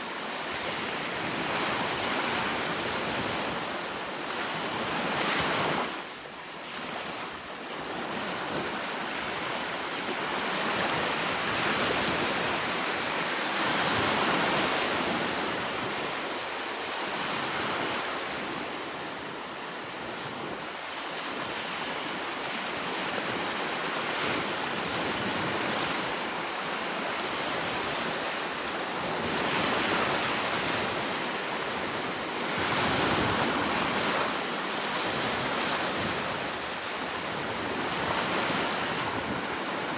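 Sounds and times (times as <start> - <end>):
sea waves breaking on shore: 0.1 - 39.9.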